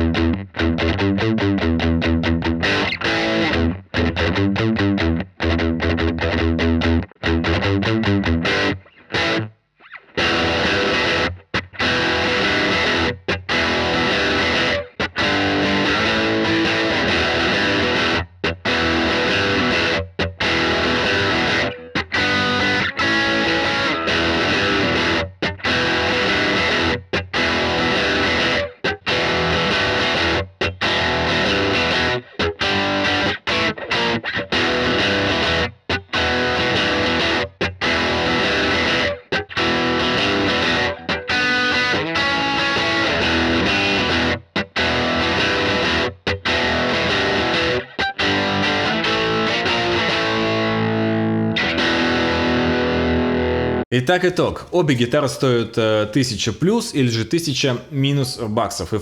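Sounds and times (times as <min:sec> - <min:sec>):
distorted electric guitar riff: 0:00.0 - 0:57.9.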